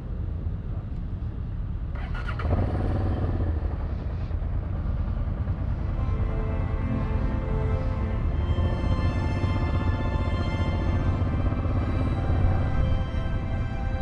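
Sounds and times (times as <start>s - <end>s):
motorcycle engines revving: 2.0s - 6.5s, 7.2s - 14.0s.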